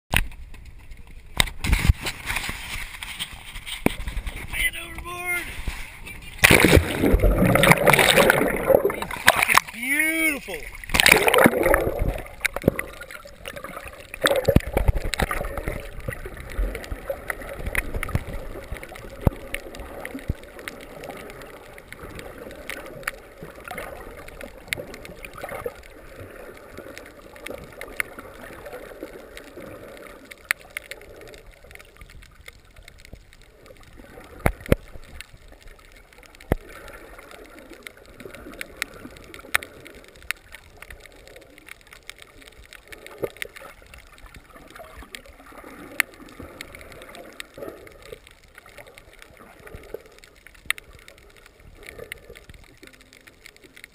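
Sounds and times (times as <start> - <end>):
water splashing: 0.1 - 53.9
underwater gurgling and bubbling: 0.3 - 9.8, 10.4 - 53.9.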